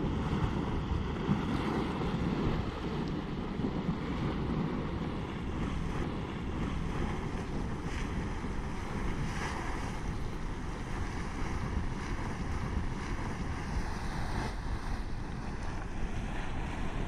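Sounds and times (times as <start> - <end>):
boiling water churning and splashing: 0.0 - 17.0
wind buffeting microphone: 0.0 - 17.0.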